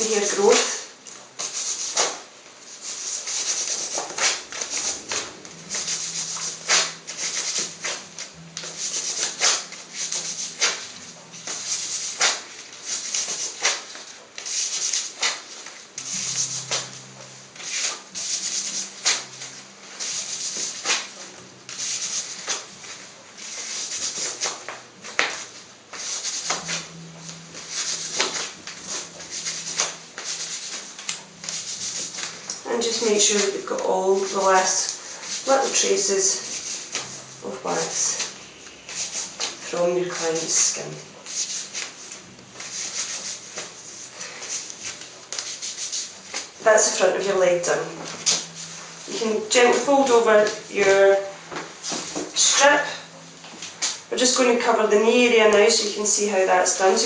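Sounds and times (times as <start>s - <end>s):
faint steady hum: 0.0s - 57.0s
wax strips rubbing and pulling off: 1.1s - 52.7s.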